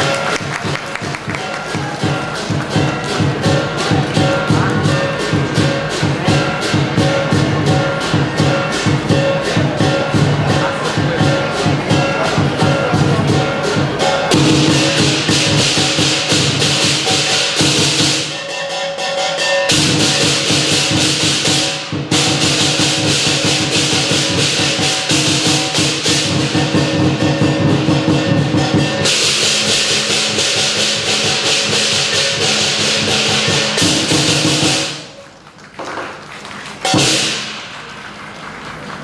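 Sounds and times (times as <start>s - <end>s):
large drum beat: 0.0s - 18.5s, 19.4s - 35.2s, 36.7s - 38.3s
gong: 0.0s - 35.1s, 36.9s - 37.7s
crashing cymbals: 1.3s - 35.1s, 36.9s - 37.8s.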